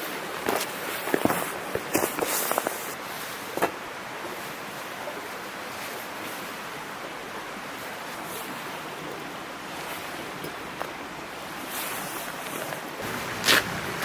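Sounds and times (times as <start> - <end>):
mountain stream babbling: 0.0 - 14.0.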